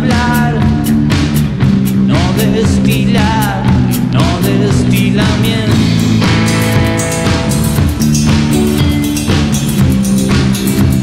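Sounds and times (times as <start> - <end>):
drum kit steady beat: 0.0 - 11.0
electric guitars: 0.0 - 11.0.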